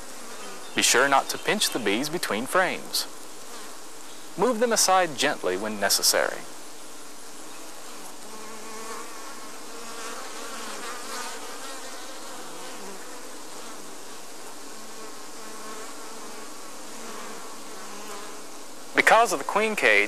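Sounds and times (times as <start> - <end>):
honey bees humming: 0.0 - 20.0.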